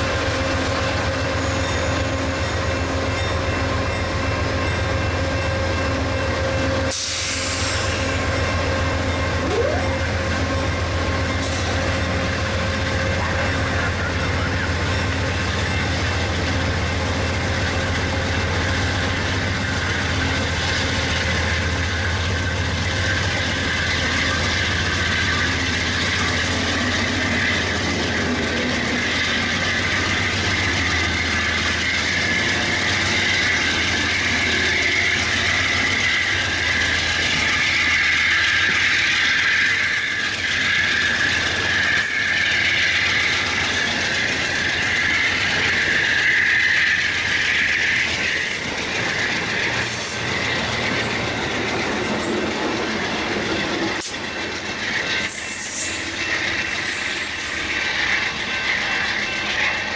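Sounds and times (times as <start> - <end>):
locomotive engine hum: 0.0 - 59.9
wheel squeal: 0.3 - 16.7, 17.7 - 59.9.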